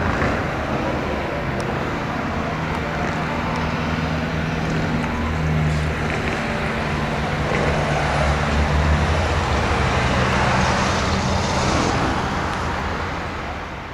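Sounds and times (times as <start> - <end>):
jet engines roaring: 0.0 - 13.9.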